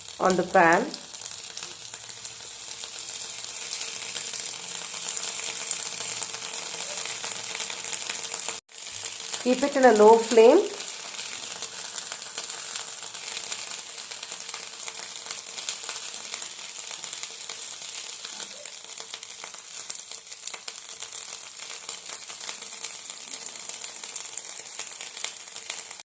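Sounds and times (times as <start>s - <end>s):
leaves sizzling in a pan: 0.0s - 26.0s.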